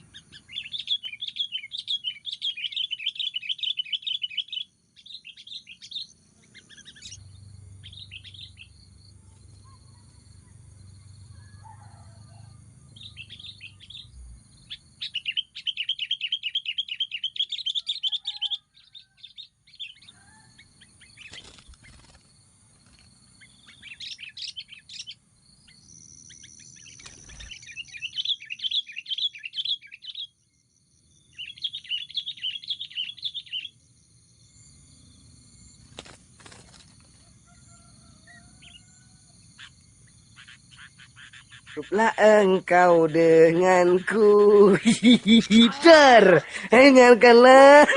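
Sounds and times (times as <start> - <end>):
birds chattering calls: 0.0 - 10.5, 13.0 - 30.4, 31.2 - 33.8, 35.6 - 47.9.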